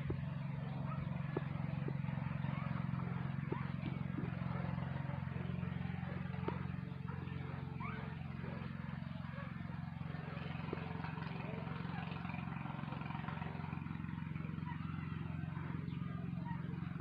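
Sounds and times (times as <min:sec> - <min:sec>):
motor humming low: 0:00.0 - 0:17.0.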